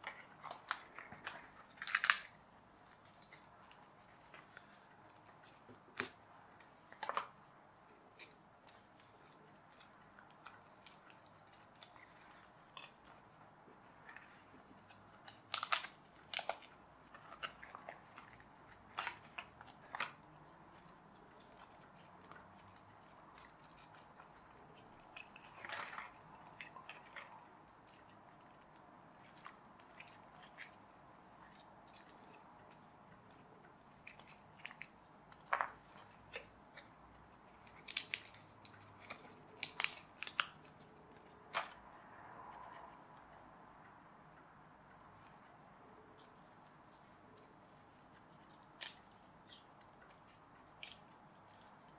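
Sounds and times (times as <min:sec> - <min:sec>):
plastic parts creaking: 0:00.0 - 0:42.9.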